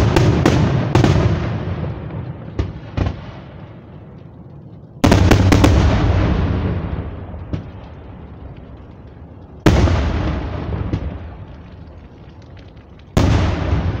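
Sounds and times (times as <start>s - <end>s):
fireworks bangs with rumbling echo: 0.0s - 4.2s, 5.0s - 14.0s
fireworks cracks: 0.0s - 14.0s.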